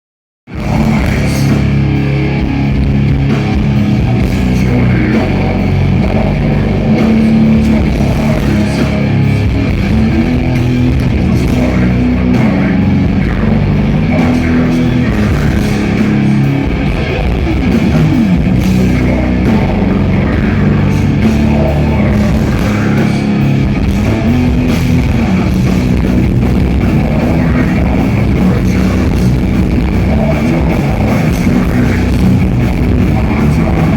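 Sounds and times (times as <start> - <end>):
distorted guitars riffing: 0.5 - 33.9
drum kit: 0.5 - 33.9.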